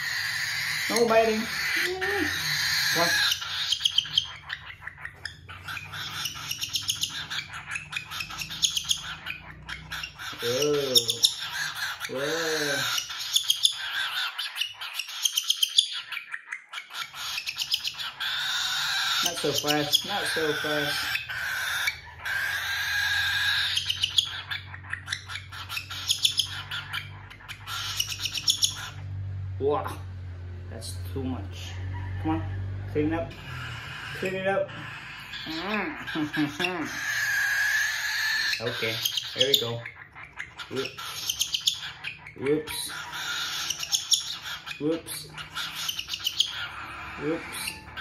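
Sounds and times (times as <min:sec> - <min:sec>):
cockatiel raspy begging call: 0:00.0 - 0:29.0, 0:33.3 - 0:48.0
bird chirping and clicking: 0:00.0 - 0:29.4, 0:33.3 - 0:48.0.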